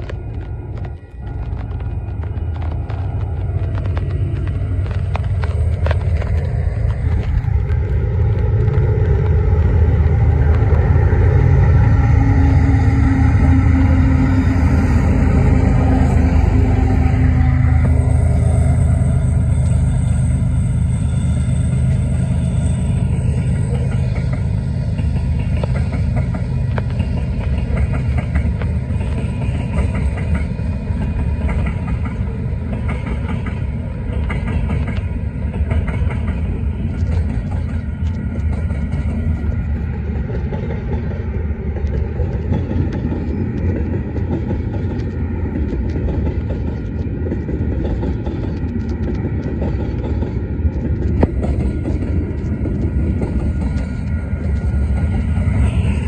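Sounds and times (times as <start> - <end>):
steel wheels rumbling on rail: 0.0 - 56.0
wheels clicking over rail joints: 0.0 - 56.0.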